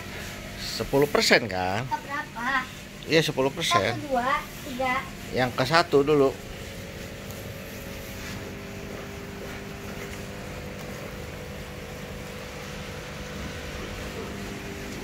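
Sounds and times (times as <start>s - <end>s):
electric water pump humming: 0.0s - 15.0s.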